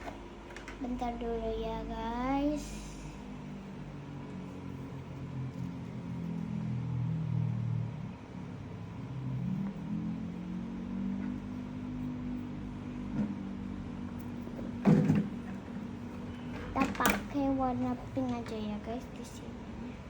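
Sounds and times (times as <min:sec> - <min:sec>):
small air pump humming: 0:00.0 - 0:20.0.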